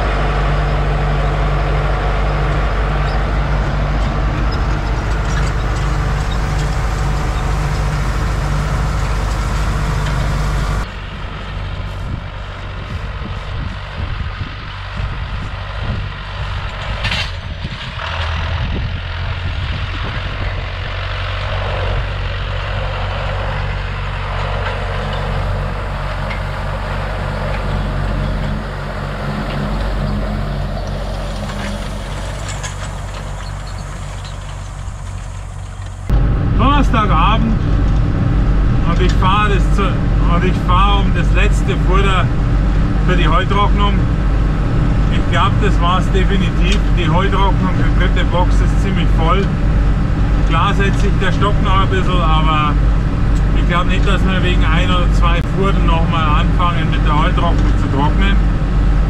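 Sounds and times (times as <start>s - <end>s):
tractor engine droning in cab: 0.0s - 59.0s
tractor engine heard outside: 0.0s - 59.0s.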